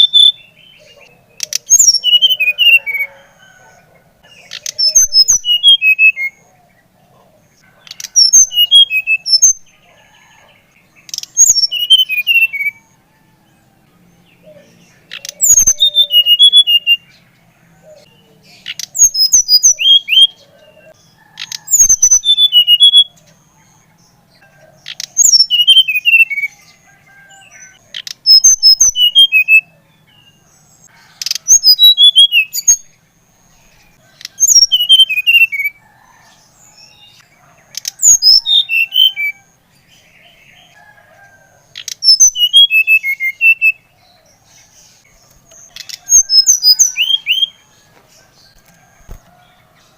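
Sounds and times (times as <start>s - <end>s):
flycatcher singing: 0.0s - 49.9s.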